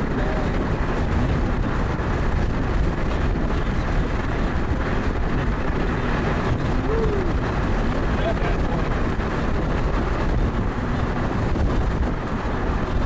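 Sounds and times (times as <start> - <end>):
vehicle road and engine rumble: 0.0 - 13.0
wind buffeting microphone: 0.0 - 13.0.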